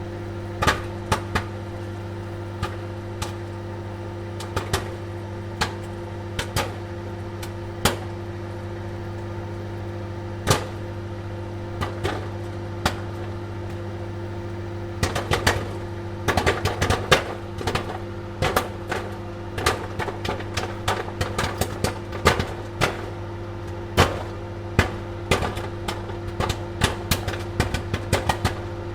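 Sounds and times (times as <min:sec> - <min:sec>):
microwave oven humming: 0:00.0 - 0:28.9
popcorn popping: 0:00.3 - 0:28.9.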